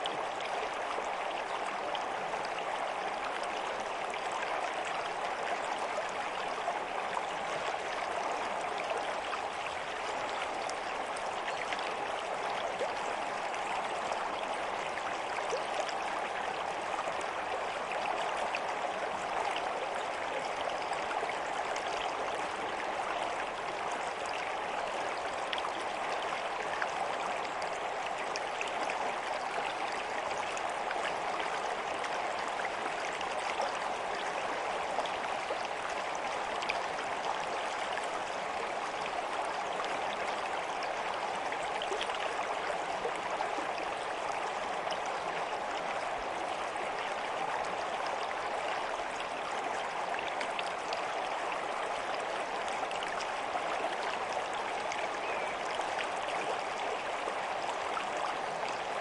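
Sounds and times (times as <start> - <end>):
stream of water running: 0.0 - 59.0.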